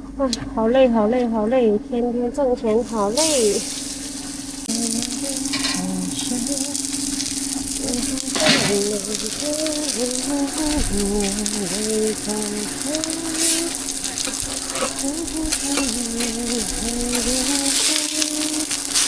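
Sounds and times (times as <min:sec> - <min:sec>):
steady hum: 0:00.0 - 0:19.0
tune of gliding notes: 0:01.8 - 0:19.0
cakes sizzling in oil: 0:02.8 - 0:19.0.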